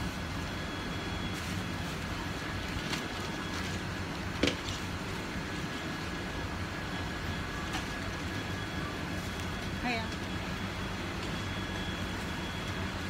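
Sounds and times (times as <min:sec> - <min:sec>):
busy market background noise: 0:00.0 - 0:13.0
faint steady machine tones: 0:00.0 - 0:13.0.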